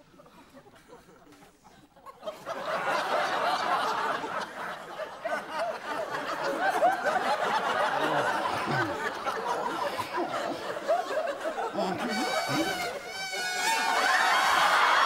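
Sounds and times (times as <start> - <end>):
audience laughter: 0.0 - 15.0.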